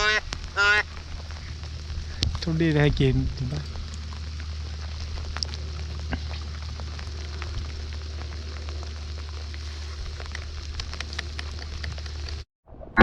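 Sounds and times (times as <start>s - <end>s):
rain pattering: 0.0s - 12.4s
constant low rumble: 0.0s - 13.0s.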